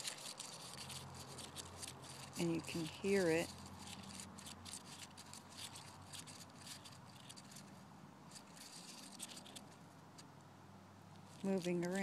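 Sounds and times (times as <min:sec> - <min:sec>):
pupa scratching rustle: 0:00.0 - 0:10.4, 0:11.2 - 0:12.0.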